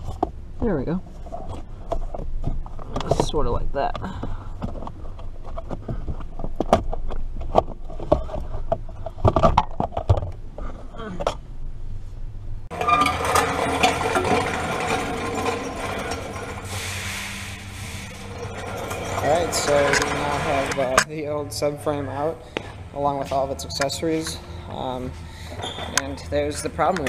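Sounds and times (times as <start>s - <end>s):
steady background noise: 0.0s - 27.0s.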